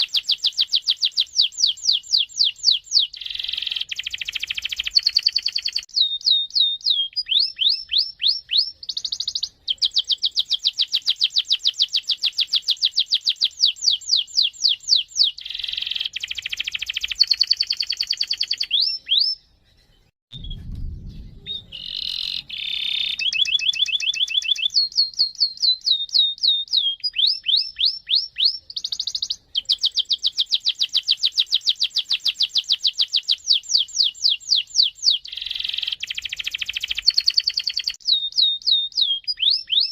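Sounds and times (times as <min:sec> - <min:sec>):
canary singing trills: 0:00.0 - 0:20.1, 0:21.3 - 0:39.9.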